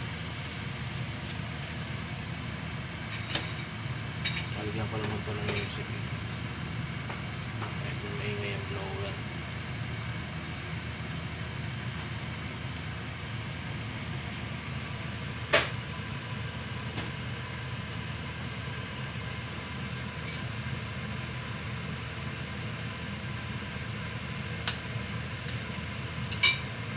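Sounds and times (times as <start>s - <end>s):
kitchen fan humming: 0.0s - 26.9s
water boiling in a pan: 0.0s - 26.9s.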